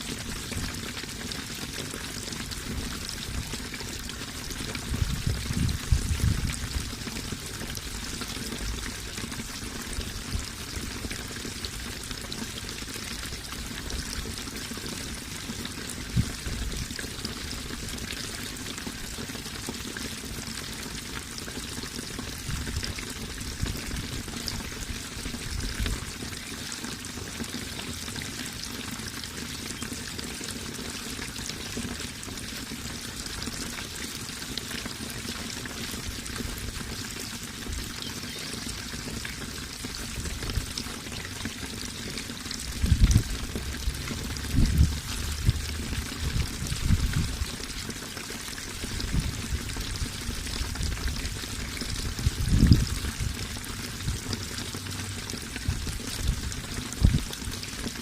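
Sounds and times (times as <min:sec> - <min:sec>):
running water pouring: 0:00.0 - 0:58.0.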